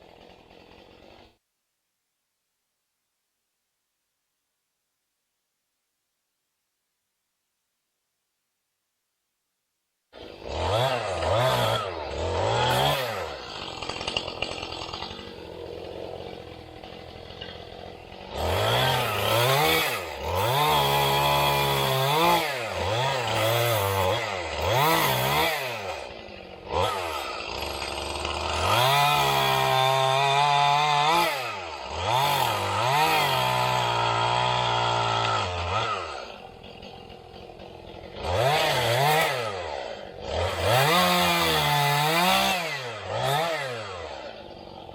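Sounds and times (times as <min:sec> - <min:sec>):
chainsaw revving: 0:00.0 - 0:01.4, 0:10.2 - 0:44.9.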